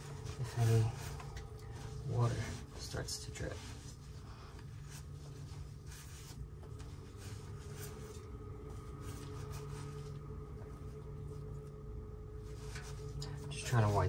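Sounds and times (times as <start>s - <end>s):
cloth rag wiping pipe: 0.0s - 14.0s
steady low hum: 0.0s - 14.0s.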